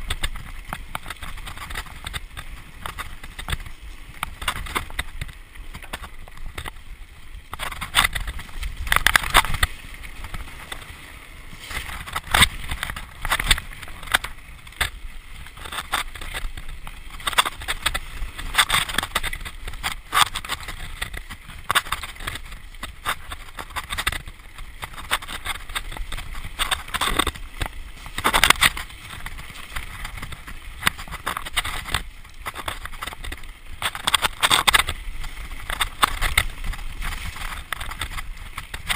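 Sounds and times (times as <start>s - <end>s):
bike knocking and rattling: 0.0s - 38.9s
bike tyres rolling on dirt: 0.0s - 38.9s
wind on microphone: 7.4s - 38.9s.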